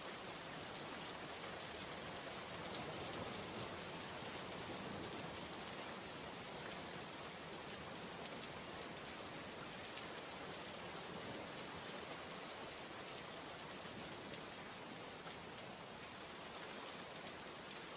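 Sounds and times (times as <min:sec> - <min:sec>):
rain-like pattering hiss: 0:00.0 - 0:17.9.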